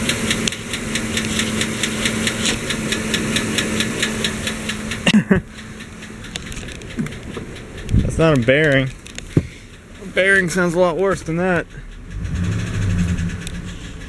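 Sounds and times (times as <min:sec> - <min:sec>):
car engine idling: 0:00.0 - 0:14.0
rapid lifter ticking: 0:00.0 - 0:14.0.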